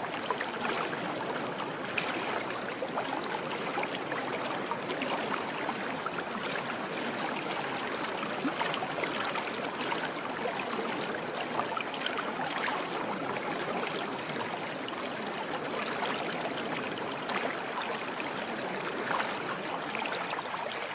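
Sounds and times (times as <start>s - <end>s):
running water: 0.0s - 20.9s.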